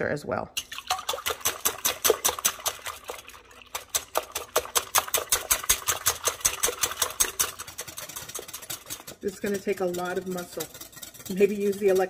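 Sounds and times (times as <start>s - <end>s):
whisk clicking against glass bowl: 0.6s - 12.0s.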